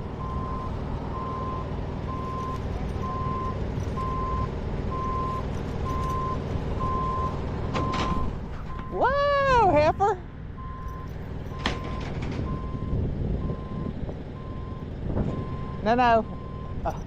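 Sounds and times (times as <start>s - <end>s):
engine rumble: 0.0s - 17.0s
backup alarm beeping: 0.2s - 9.1s, 10.6s - 17.0s.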